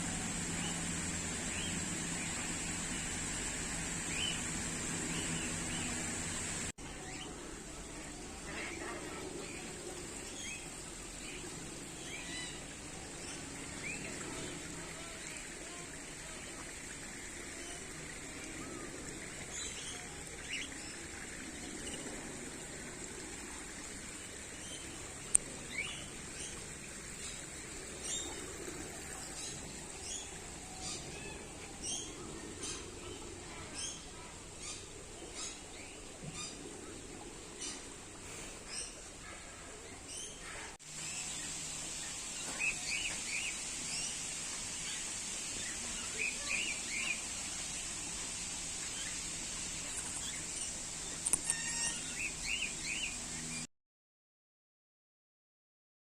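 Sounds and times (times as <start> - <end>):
birds chirping: 0.0 - 15.9, 23.8 - 53.7
low steady hum: 0.0 - 53.7
outdoor background hiss: 0.0 - 53.7.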